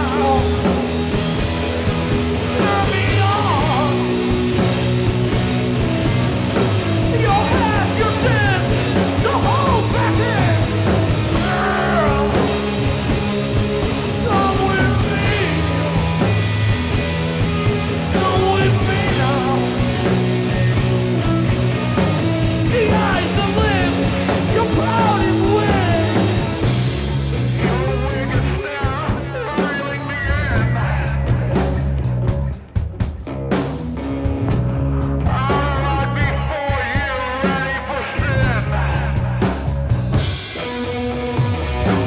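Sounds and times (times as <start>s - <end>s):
bass guitar line: 0.0s - 42.0s
drums: 0.0s - 42.0s.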